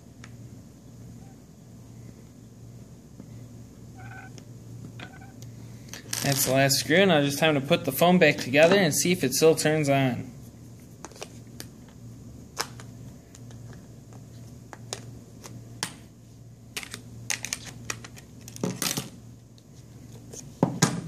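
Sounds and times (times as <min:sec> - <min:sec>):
faint low hum: 0:00.0 - 0:20.6.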